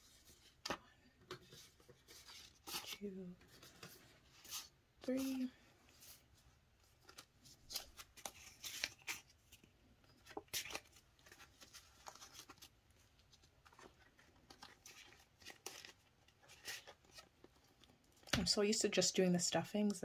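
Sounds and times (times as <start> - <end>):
plastic envelopes crinkling: 1.5 - 18.4.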